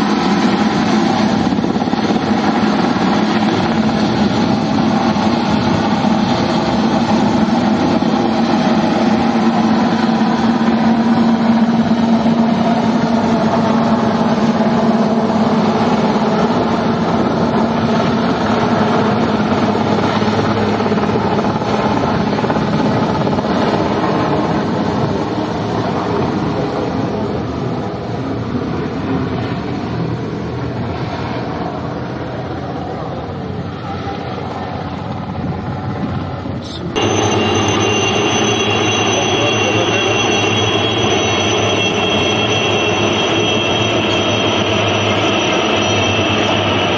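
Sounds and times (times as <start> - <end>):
helicopter rotor and engine: 0.0 - 46.9.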